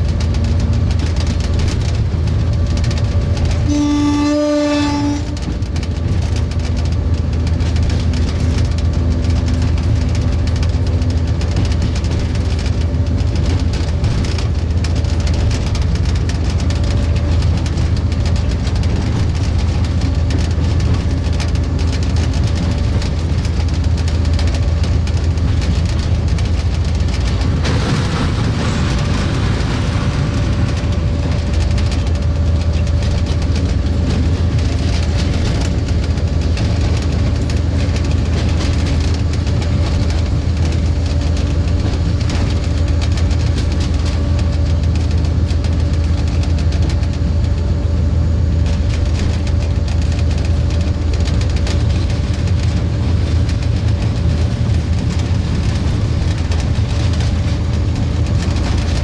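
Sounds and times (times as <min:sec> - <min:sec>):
wheels clicking on rails: 0:00.0 - 0:47.9, 0:48.5 - 0:59.0
diesel locomotive engine running: 0:00.0 - 0:59.0.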